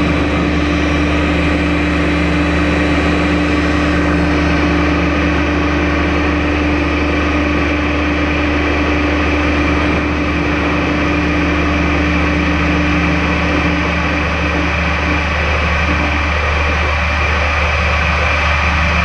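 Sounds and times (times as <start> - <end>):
steady tones: 0.0 - 16.7
machine humming: 0.0 - 19.0.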